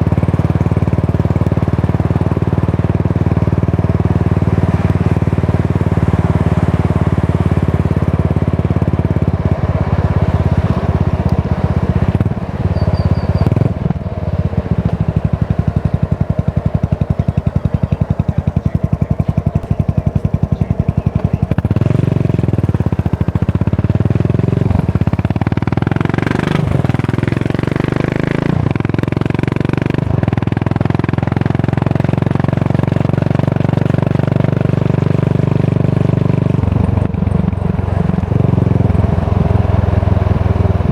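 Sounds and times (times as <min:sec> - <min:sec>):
motorcycle engine exhaust beat: 0:00.0 - 0:40.9.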